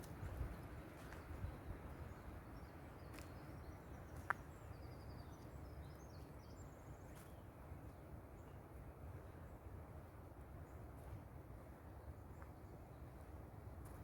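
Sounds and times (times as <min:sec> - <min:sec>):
distant songbirds chirping: 0:00.0 - 0:14.0.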